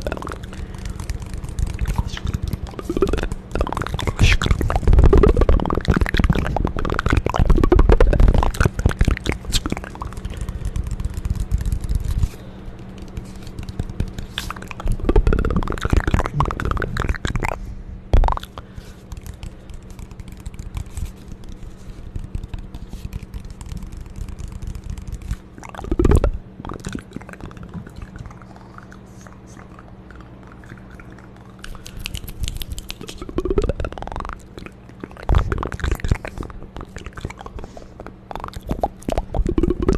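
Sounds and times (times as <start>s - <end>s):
wet mouth clicks and smacks: 0.0s - 17.6s, 18.2s - 39.9s.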